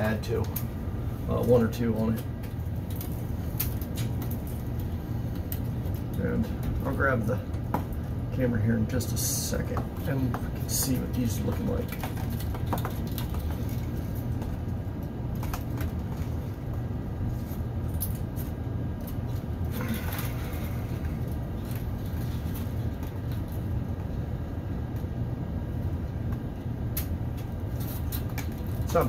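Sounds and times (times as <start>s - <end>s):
air handler drone: 0.0s - 29.0s
cable wires rustling: 0.0s - 29.0s.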